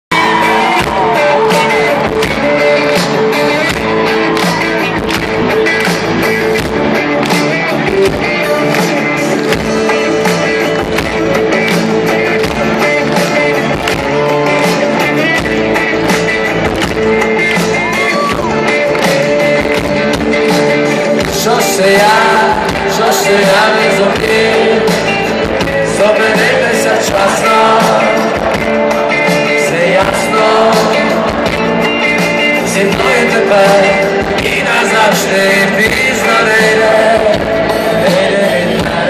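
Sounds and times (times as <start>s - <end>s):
bass guitar: 0.1s - 39.0s
electric guitars: 0.1s - 39.0s.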